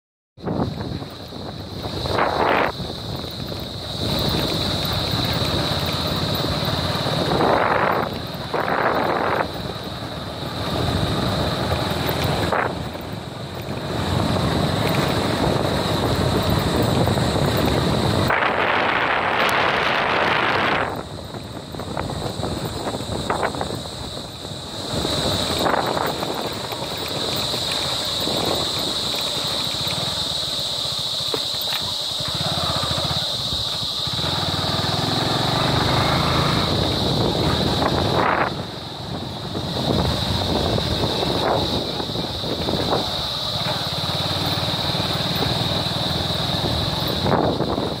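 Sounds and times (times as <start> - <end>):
motorcycle engine: 0.6 - 48.0.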